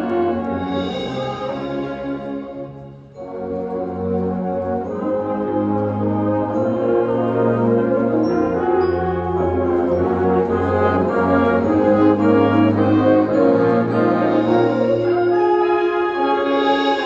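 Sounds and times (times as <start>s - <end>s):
wind ensemble playing brass chords: 0.0s - 17.0s.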